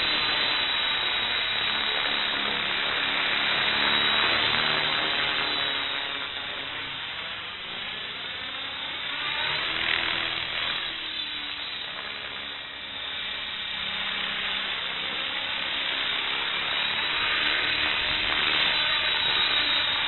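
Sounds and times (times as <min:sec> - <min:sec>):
model helicopter motor and rotor whirring: 0:00.0 - 0:20.0.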